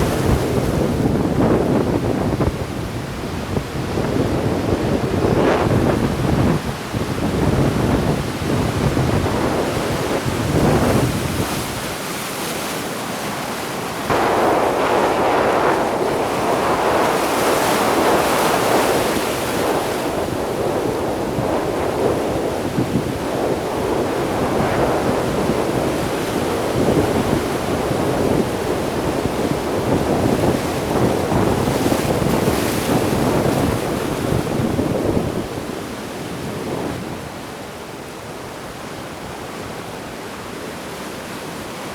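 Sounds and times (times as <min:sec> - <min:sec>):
wind buffeting microphone: 0:00.0 - 0:12.3, 0:13.4 - 0:38.6
sea waves breaking on shore: 0:00.0 - 0:41.9.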